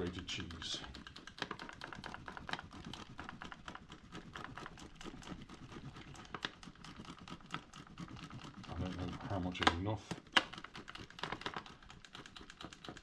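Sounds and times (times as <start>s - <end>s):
cheese grating rasps: 0.0s - 13.0s.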